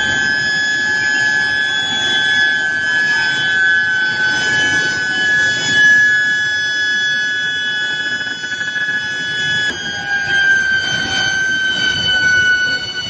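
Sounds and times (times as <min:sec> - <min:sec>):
furnace high-pitched whine: 0:00.0 - 0:13.0.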